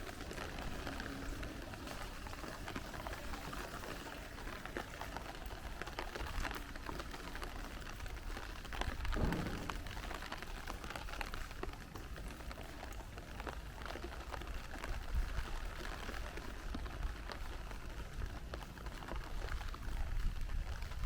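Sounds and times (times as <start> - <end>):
rain drops ticking: 0.0 - 21.0.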